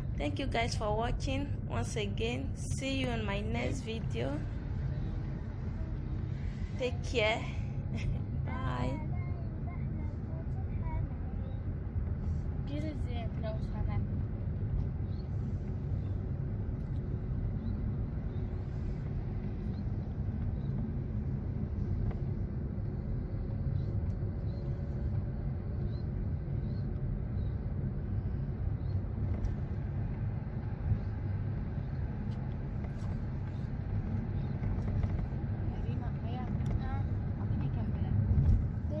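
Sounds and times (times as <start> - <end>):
car engine and tyres rumbling: 0.0 - 39.0.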